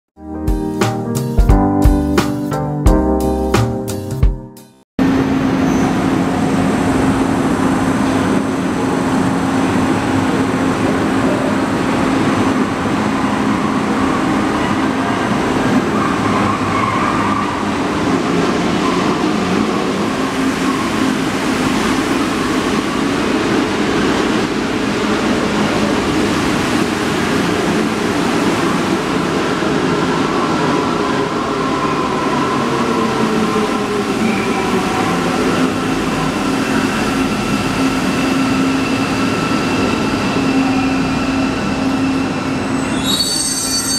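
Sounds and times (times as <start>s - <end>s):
train rolling rush: 5.0s - 43.9s.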